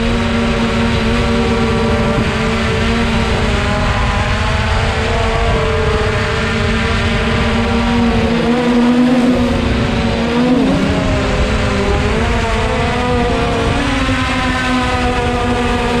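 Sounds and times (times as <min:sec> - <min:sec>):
model aircraft motor buzzing: 0:00.0 - 0:16.0
wind rumble: 0:00.0 - 0:16.0.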